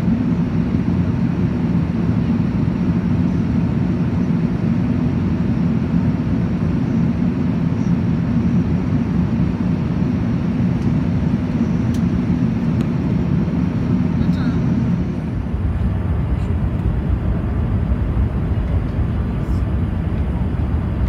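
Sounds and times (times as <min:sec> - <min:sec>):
airplane cabin rumble: 0:00.0 - 0:21.0.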